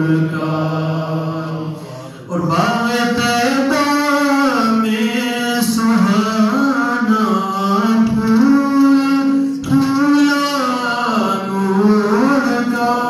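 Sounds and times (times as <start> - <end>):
man singing devotional chant: 0.0 - 13.0.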